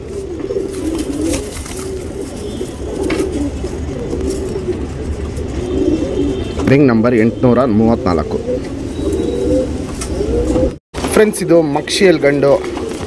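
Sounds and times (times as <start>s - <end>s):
pigeons cooing: 0.0s - 10.8s, 12.2s - 13.0s.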